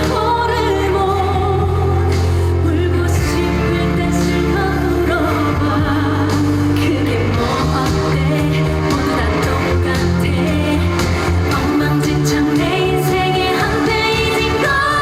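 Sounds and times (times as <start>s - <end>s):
pop backing track with bass and drums: 0.0s - 15.0s
woman singing: 0.0s - 15.0s.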